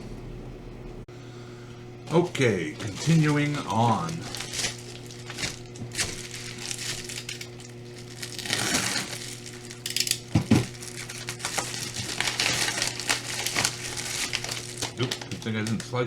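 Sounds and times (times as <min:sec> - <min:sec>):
packaging crinkling and rustling: 0:02.1 - 0:16.0.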